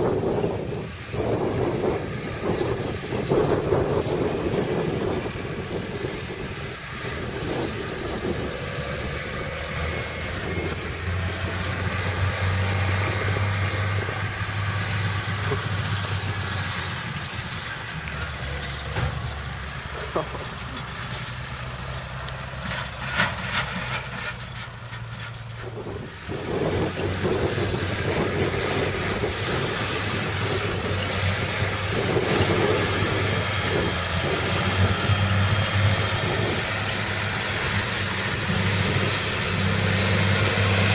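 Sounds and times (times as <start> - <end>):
tractor diesel engine droning: 0.0 - 40.9.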